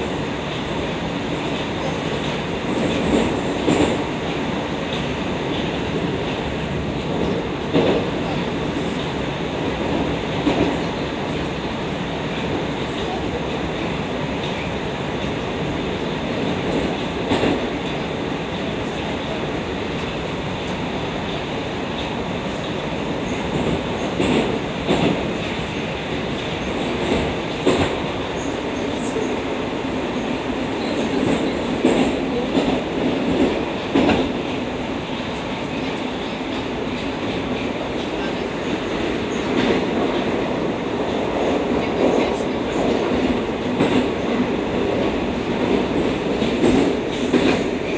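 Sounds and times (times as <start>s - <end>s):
train wheels rumbling: 0.0s - 47.9s.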